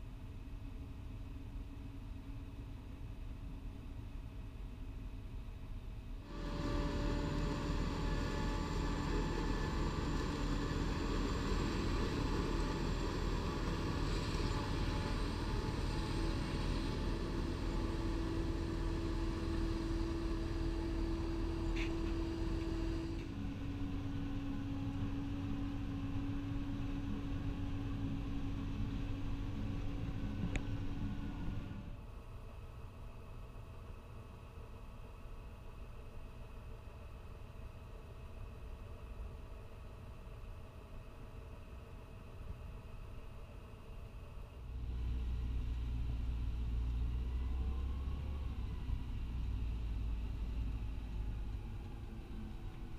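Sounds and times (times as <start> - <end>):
harvester engine drone: 0.0 - 52.9
steady high whine: 0.0 - 52.9.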